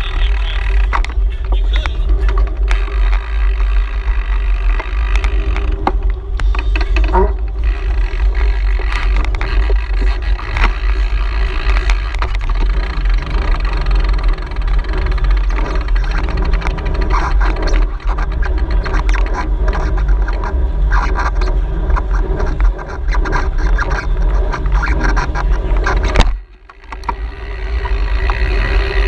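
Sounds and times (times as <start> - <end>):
bike rattles and ticks: 0.0 - 29.0
road noise: 0.0 - 29.0
wind buffeting microphone: 0.0 - 29.0.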